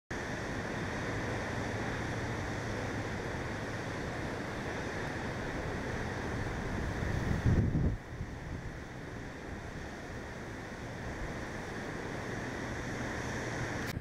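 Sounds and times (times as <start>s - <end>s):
surf breaking on rocks: 0.1s - 14.0s
wind: 0.1s - 14.0s.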